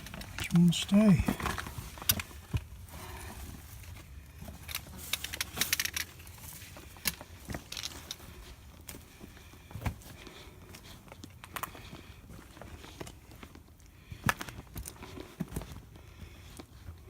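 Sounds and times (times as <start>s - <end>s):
footsteps on rocky trail: 0.0s - 17.0s.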